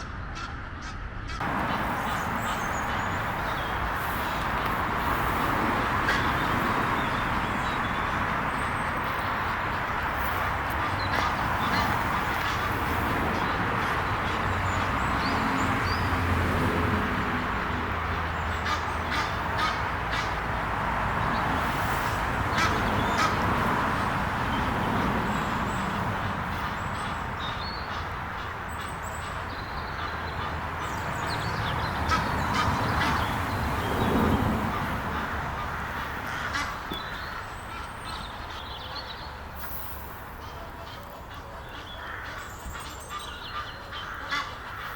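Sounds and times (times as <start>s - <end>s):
geese honking and quacking: 0.0s - 44.9s
rushing background noise: 0.0s - 44.9s
small birds chirping: 1.4s - 16.8s, 21.2s - 44.9s.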